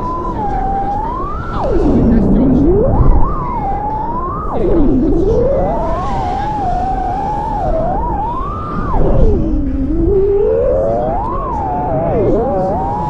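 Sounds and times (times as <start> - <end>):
drone motors whining: 0.0 - 13.0
low rumble of wind: 0.0 - 13.0.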